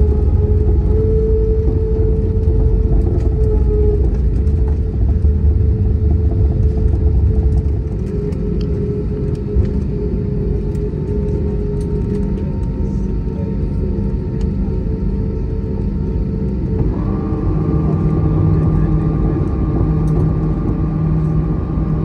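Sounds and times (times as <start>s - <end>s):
aircraft engines idling rumble: 0.0s - 22.0s
steady hum tone: 0.0s - 22.0s.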